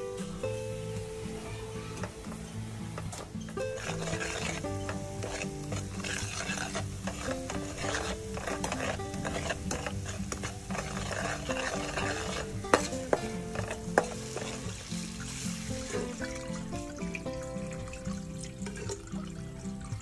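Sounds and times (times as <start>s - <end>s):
sauce sizzling and frying: 0.0s - 20.0s
ladle stirring and scraping pot: 2.0s - 19.4s
ladle clinking on pot: 3.0s - 19.1s.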